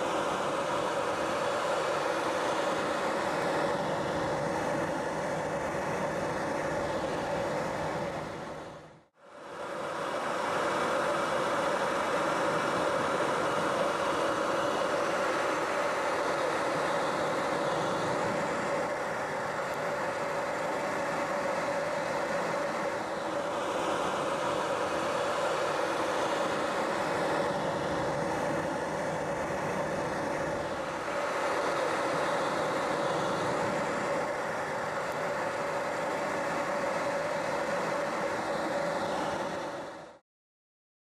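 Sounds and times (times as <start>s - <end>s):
helicopter engine and rotors: 0.0s - 40.2s.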